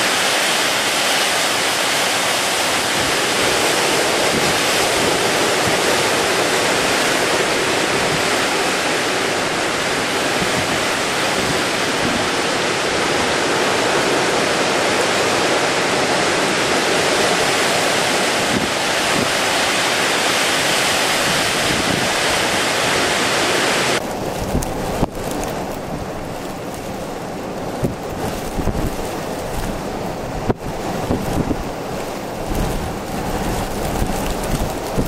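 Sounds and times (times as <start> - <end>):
heavy surf: 0.0 - 35.0
storm-force wind: 0.0 - 35.0
wind buffeting microphone: 2.6 - 35.0.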